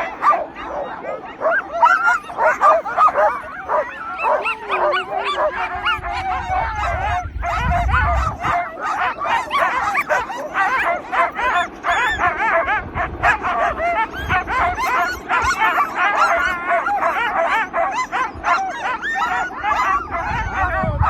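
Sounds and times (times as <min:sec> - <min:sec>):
sled dogs yipping and barking: 0:00.0 - 0:21.0.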